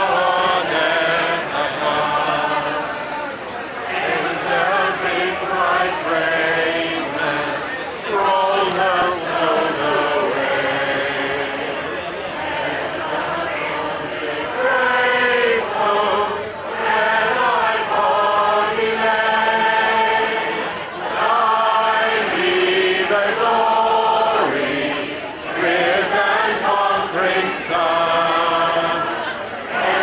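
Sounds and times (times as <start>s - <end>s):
crowd singing a hymn: 0.0s - 30.0s.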